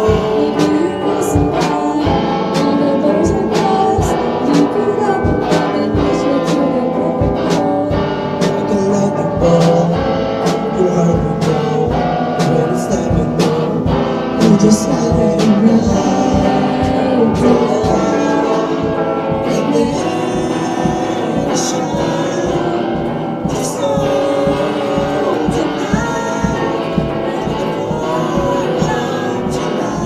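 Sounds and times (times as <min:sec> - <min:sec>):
amateur person singing: 0:00.0 - 0:30.0
backing music with beat: 0:00.0 - 0:30.0.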